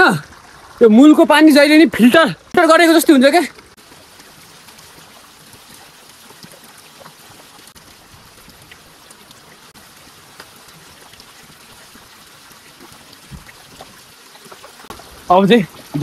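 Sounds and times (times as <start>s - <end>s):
small water splashes: 0.0s - 16.0s
water trickling over stones: 0.0s - 16.0s.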